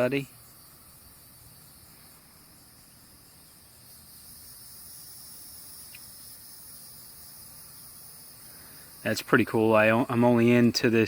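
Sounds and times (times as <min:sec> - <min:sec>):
insects buzzing trill: 0:00.0 - 0:11.0.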